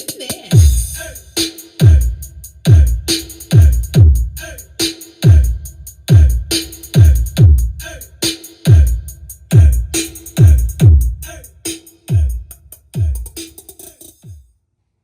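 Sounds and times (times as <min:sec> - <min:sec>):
electronic dance music: 0:00.0 - 0:14.4
sharp percussion: 0:00.0 - 0:14.4.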